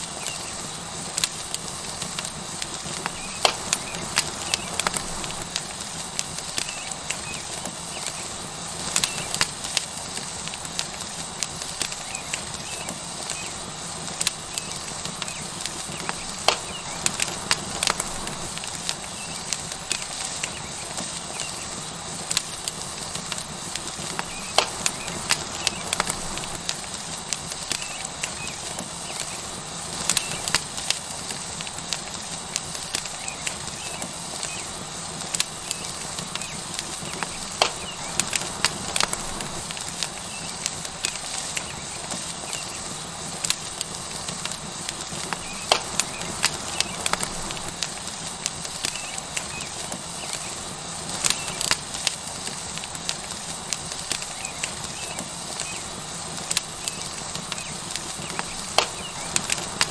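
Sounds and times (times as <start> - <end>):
steak sizzling on hot rock: 0.0 - 59.9
wood fire crackling: 0.0 - 59.9.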